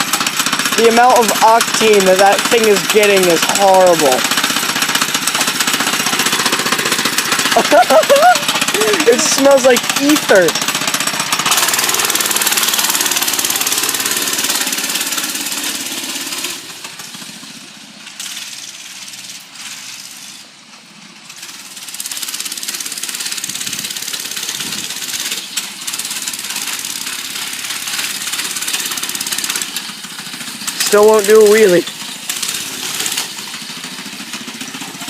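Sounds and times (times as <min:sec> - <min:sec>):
mini bike engine running: 0:00.0 - 0:35.0.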